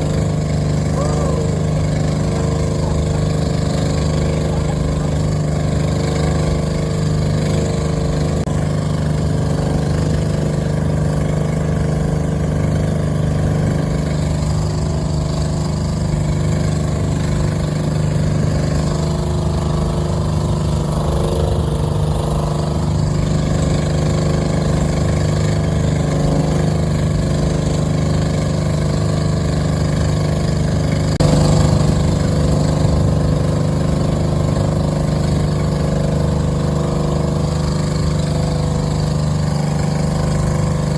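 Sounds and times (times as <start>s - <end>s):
boat engine drone: 0.0s - 40.9s
rush of wind and water: 0.0s - 40.9s.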